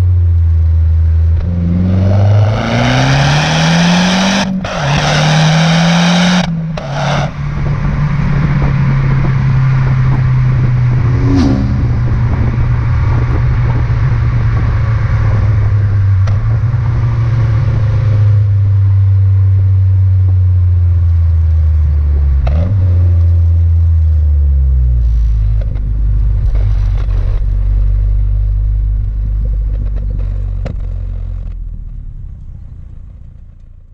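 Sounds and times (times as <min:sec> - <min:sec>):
car engine running: 0:00.0 - 0:33.9
road noise: 0:00.0 - 0:33.9.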